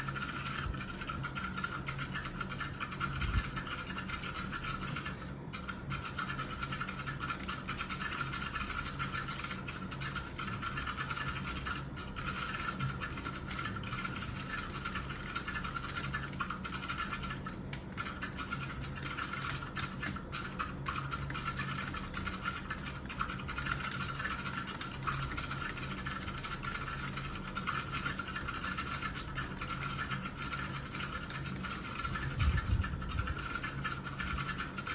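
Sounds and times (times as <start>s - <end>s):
fast keyboard typing: 0.0s - 34.9s.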